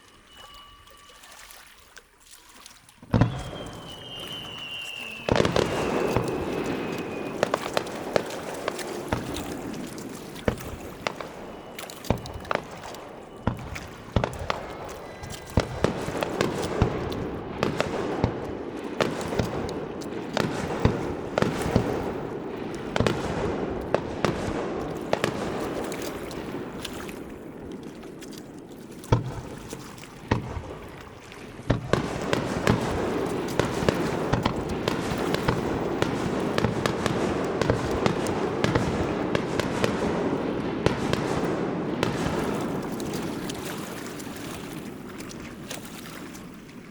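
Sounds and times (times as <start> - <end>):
fireworks bangs and pops: 3.0 - 45.7.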